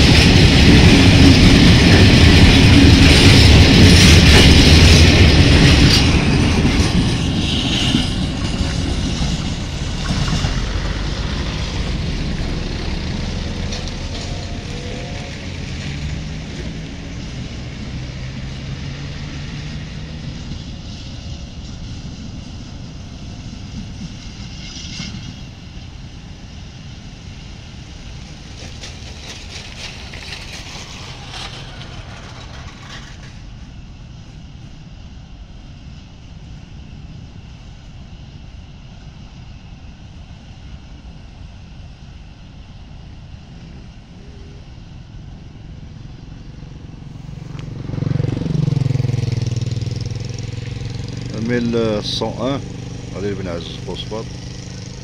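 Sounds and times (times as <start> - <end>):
freight train wagons rolling on rails: 0.0 - 35.2, 43.5 - 55.0.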